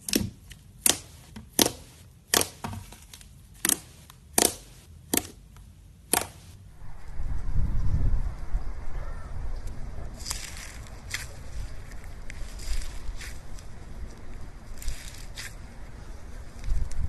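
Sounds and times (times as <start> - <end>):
continuous low rumble: 0.0 - 17.0.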